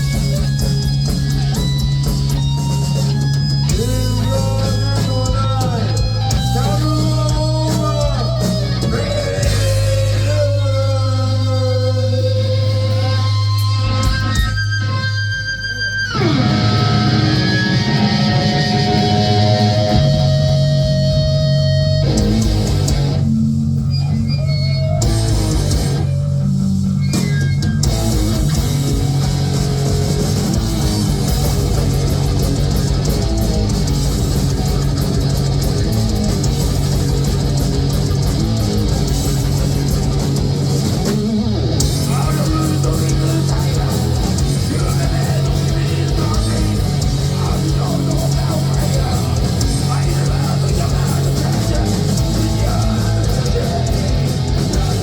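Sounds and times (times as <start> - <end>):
heavy metal band playing: 0.0 - 55.0.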